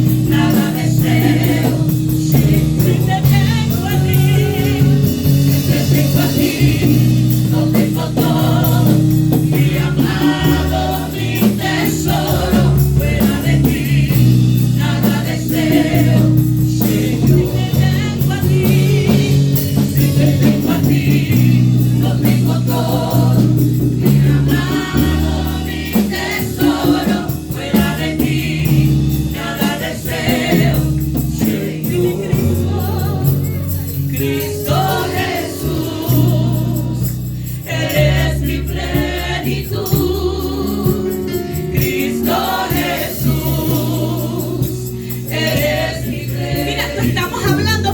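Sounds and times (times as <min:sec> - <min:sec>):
band playing: 0:00.0 - 0:47.9
group singing gospel: 0:00.0 - 0:47.9.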